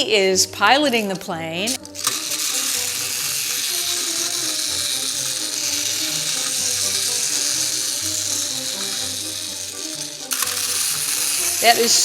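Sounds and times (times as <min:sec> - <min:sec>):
clockwork motor whirring buzz: 0:00.7 - 0:12.0.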